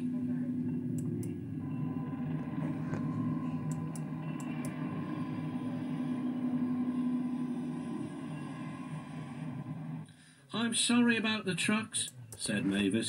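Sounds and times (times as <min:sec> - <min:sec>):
steady low hum: 0:00.0 - 0:11.4
quiet background music: 0:00.0 - 0:13.0.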